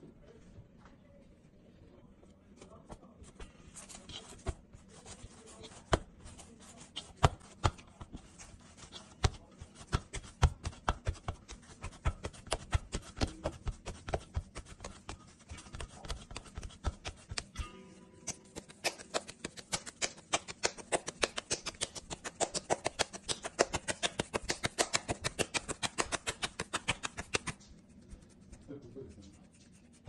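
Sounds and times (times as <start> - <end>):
hands slapping dough: 2.6 - 17.6, 18.2 - 28.7.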